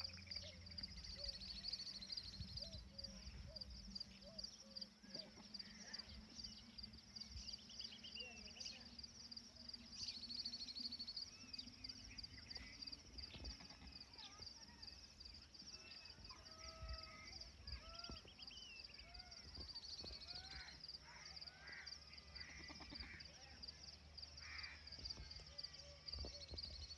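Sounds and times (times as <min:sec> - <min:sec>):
bird calls and chirps: 0:00.0 - 0:23.6, 0:24.4 - 0:26.9
insects chirring: 0:00.0 - 0:26.9.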